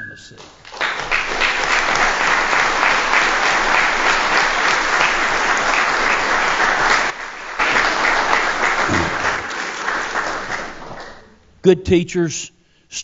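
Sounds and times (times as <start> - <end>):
audience applauding: 0.4 - 11.4.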